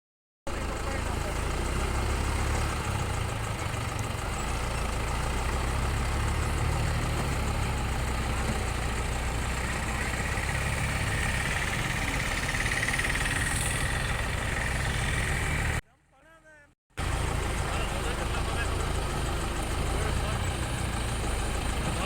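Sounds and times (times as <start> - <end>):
tractor diesel engine running: 0.5 - 22.0.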